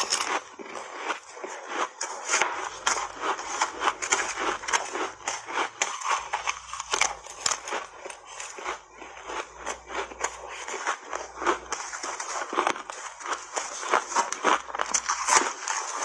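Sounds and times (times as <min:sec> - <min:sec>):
ice crunching between teeth: 0:00.0 - 0:16.0.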